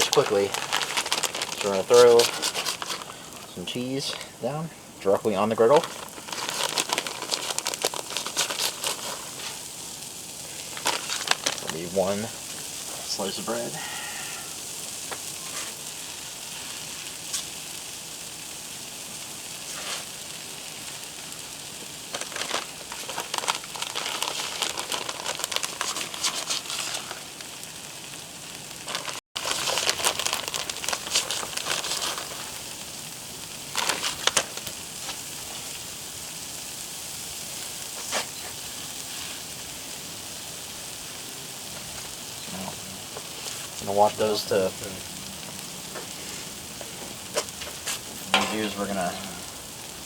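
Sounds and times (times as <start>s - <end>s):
cheese and bread sizzling on griddle: 0.0s - 50.0s.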